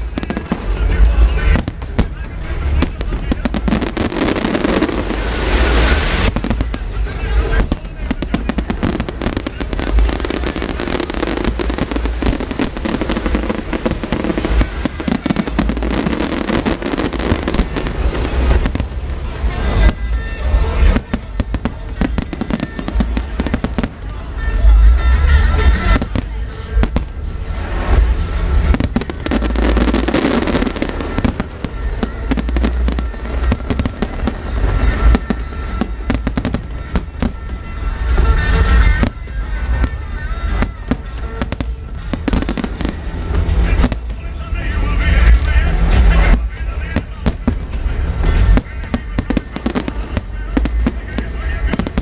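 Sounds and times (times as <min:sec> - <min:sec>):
deep fireworks booms: 0:00.0 - 0:52.0
fireworks bangs and crackling: 0:00.0 - 0:52.0.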